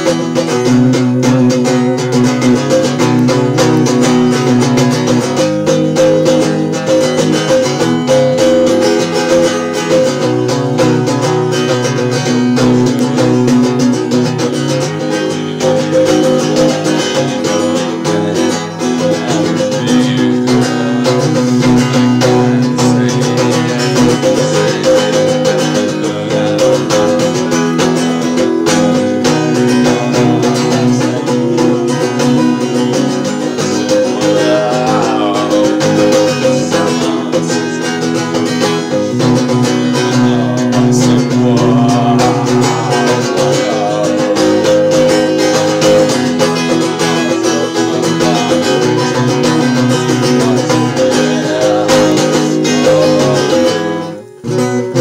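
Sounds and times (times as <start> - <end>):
acoustic guitar strumming: 0.0 - 55.0
man singing: 0.0 - 55.0.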